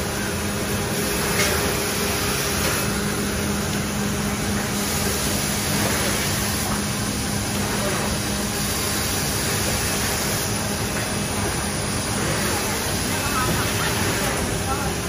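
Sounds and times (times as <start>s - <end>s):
printing press machinery hissing: 0.0s - 15.0s.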